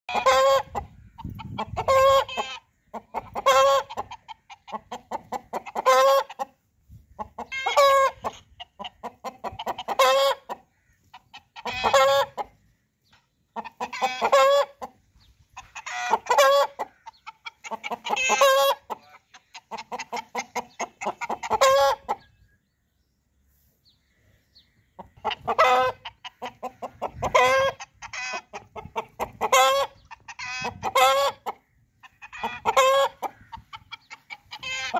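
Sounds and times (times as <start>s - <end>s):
rooster clucking and squawking: 0.1s - 12.8s, 13.4s - 22.5s, 24.5s - 34.9s.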